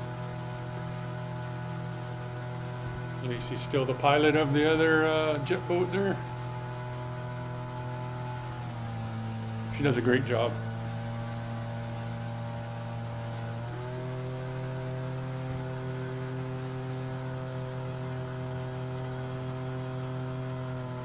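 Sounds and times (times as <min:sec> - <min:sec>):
outboard engine droning: 0:00.0 - 0:21.0.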